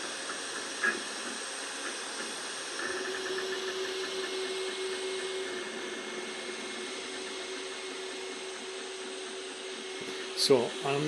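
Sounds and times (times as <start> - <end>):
printer motors whining and ticking: 0.0 - 11.0.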